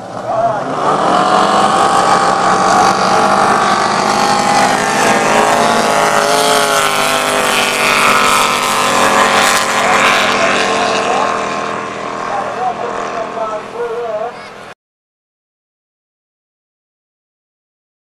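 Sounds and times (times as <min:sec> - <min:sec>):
boat engines running hard: 0:00.0 - 0:14.8.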